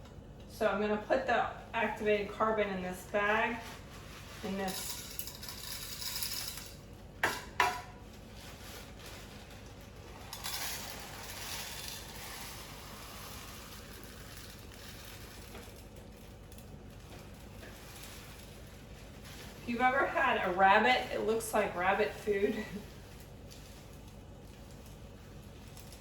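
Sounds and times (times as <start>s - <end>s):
pellets pouring into bag: 3.3s - 6.8s, 8.0s - 26.0s.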